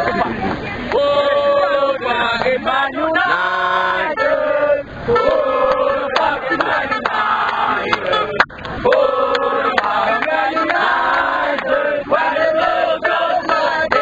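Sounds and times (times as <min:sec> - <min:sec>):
crowd singing a chant: 0:00.0 - 0:14.0.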